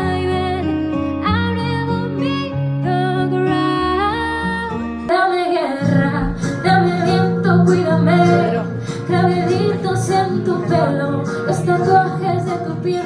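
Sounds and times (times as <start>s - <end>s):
guitar accompaniment: 0.0s - 13.0s
woman singing pop song: 0.0s - 13.0s.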